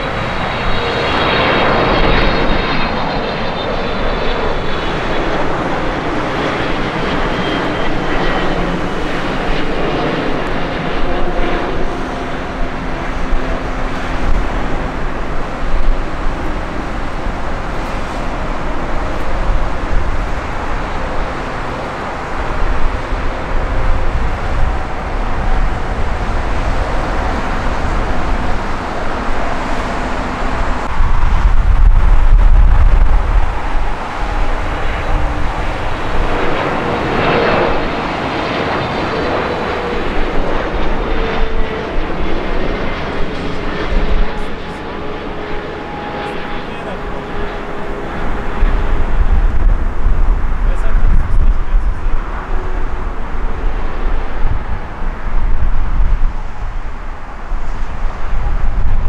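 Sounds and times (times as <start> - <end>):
deep jet rumble: 0.0 - 59.0
jet engines passing: 0.0 - 59.0.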